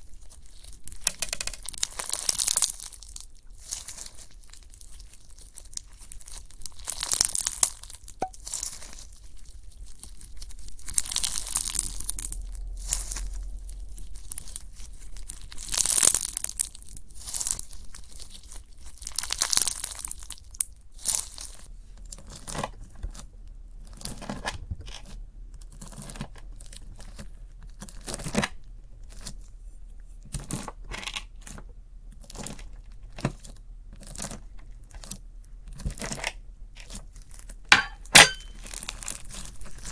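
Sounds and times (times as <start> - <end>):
slime squishing and crackling: 0.0 - 29.6, 30.3 - 39.9.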